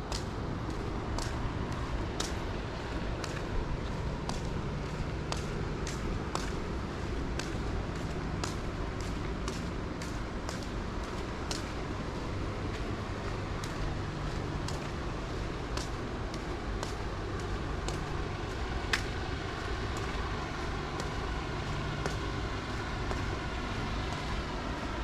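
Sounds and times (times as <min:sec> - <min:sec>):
low engine hum: 0:00.0 - 0:25.0
traffic noise: 0:00.0 - 0:25.0.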